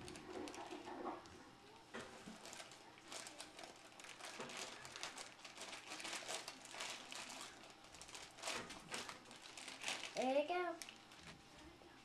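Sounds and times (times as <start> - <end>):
packaging crinkling and rustling: 0.0 - 11.5.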